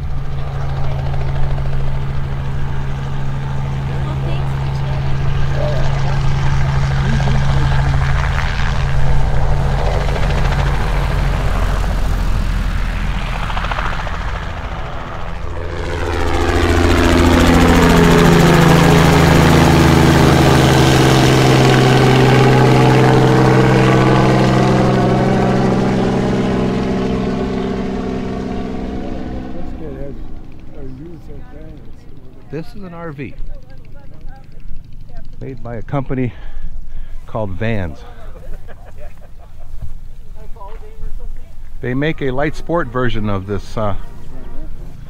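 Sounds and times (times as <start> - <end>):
plane passing close by: 0.0 - 45.0
propeller plane engine running: 0.0 - 45.0.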